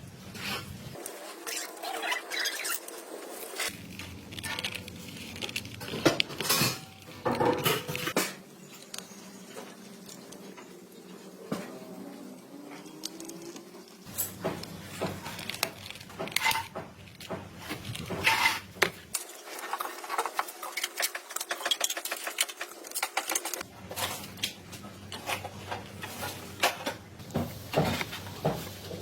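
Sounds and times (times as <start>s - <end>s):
small parts clicking and clattering: 1.0s - 10.6s, 12.8s - 27.0s.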